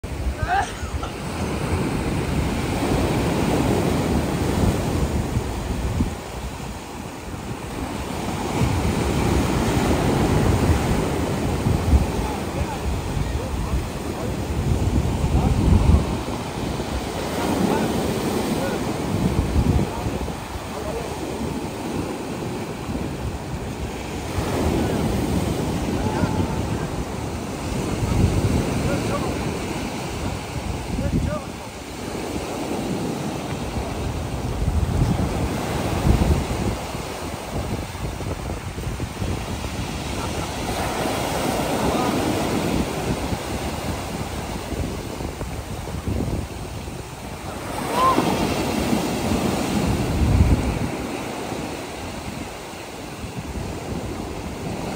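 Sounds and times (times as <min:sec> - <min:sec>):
wind buffeting microphone: 0:00.0 - 0:54.9
waves washing up gravel beach: 0:00.1 - 0:54.9.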